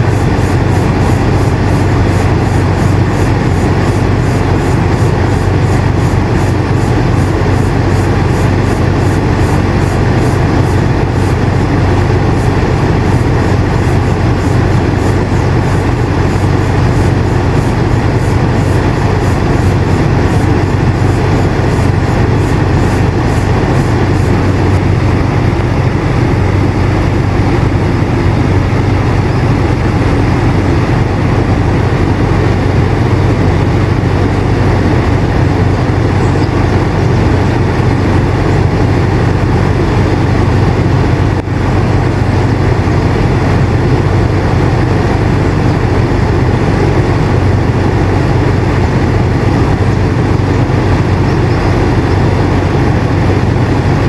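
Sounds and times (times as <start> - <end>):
air conditioner humming: 0.0 - 54.0
rush of airflow: 0.0 - 54.0.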